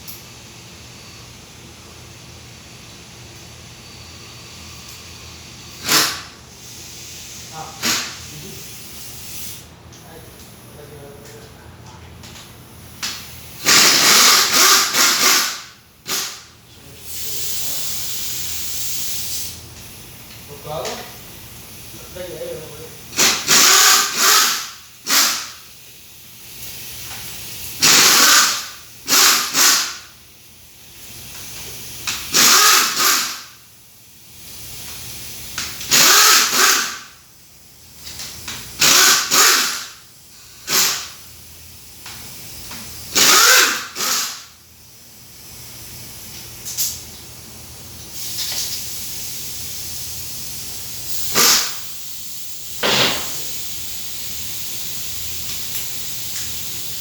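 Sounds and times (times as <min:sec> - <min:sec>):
steady air hiss: 0:00.0 - 0:11.4, 0:12.6 - 0:57.0
compressed-air tool bursts: 0:03.7 - 0:09.7, 0:12.8 - 0:47.1, 0:48.1 - 0:57.0.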